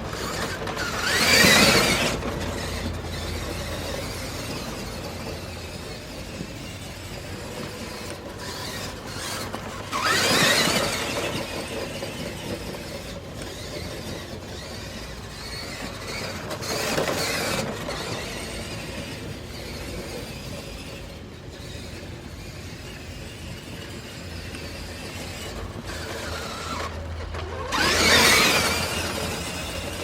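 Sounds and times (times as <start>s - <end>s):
bicycle scratchy rubbing: 0.0s - 30.0s.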